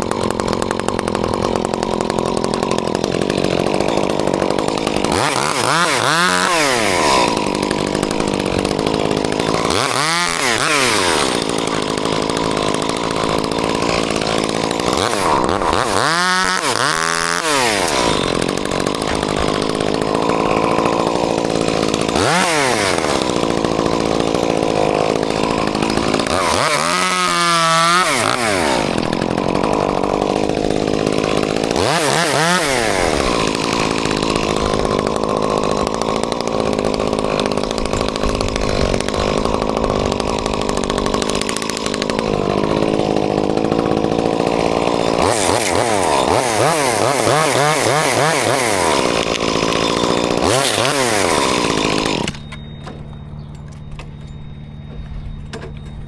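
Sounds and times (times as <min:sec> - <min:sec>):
chainsaw revving: 0:00.0 - 0:54.8.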